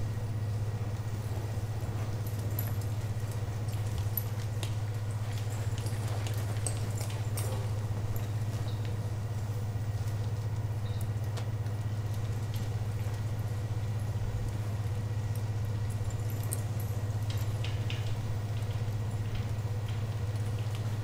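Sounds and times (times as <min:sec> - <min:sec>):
faint clicks and ticks: 0:02.0 - 0:21.0.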